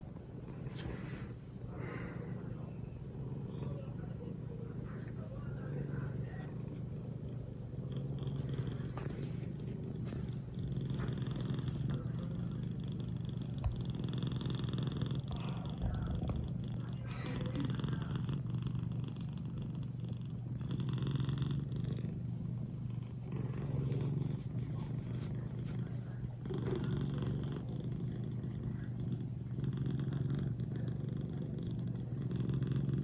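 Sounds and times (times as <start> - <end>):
kitten purring: 0.0 - 33.0.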